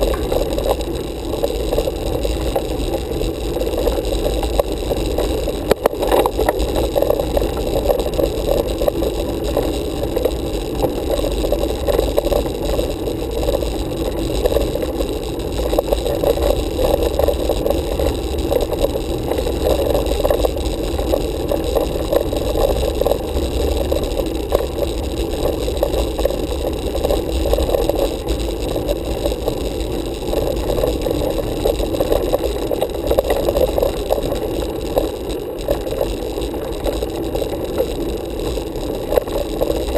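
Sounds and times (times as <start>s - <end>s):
bicycle light rattles: 0.0s - 39.9s
bicycle tyres rumbling on asphalt: 0.0s - 39.9s.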